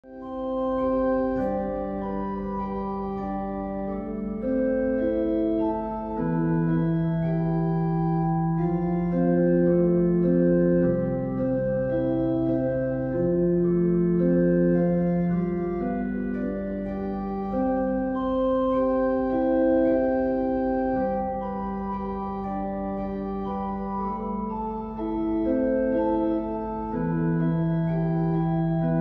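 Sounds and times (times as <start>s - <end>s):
organ music: 0.0s - 29.0s.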